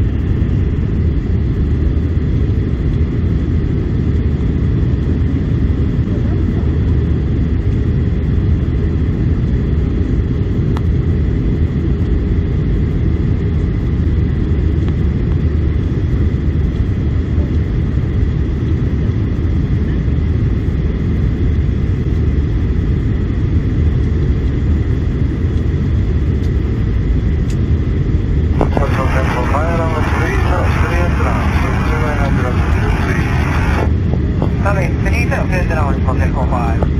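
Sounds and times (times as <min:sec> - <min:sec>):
airplane cabin engine rumble: 0:00.0 - 0:36.9.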